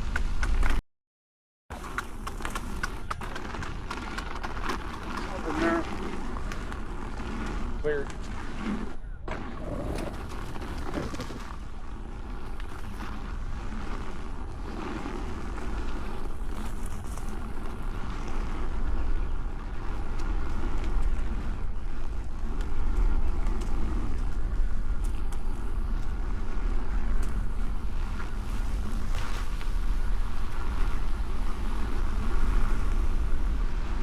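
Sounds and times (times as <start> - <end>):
wind rumbling on microphone: 0.0 - 0.8, 1.7 - 34.0
tyre and motor noise: 1.7 - 34.0.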